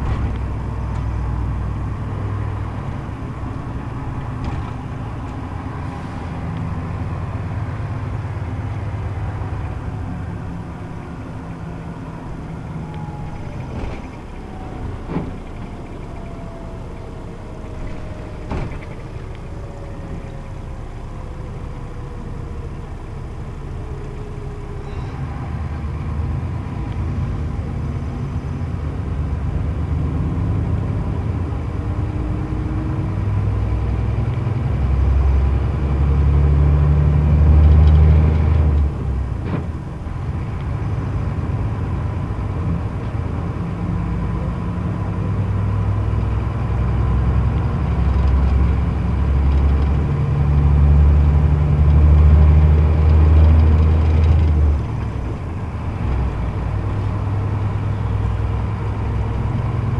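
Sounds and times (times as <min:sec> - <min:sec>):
diesel engine droning: 0:00.0 - 0:59.9
tyre and road noise: 0:00.0 - 0:59.9.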